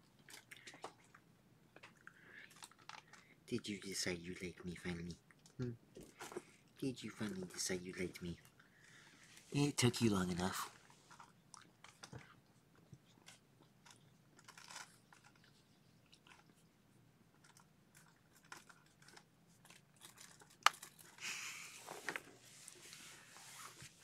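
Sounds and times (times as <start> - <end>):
faint crunching and clicking: 0.0 - 8.9, 10.5 - 23.0.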